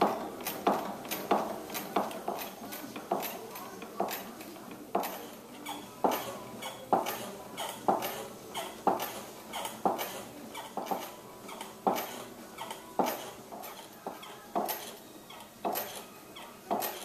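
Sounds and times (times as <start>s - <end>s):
pottery wheel knocking: 0.0s - 17.0s.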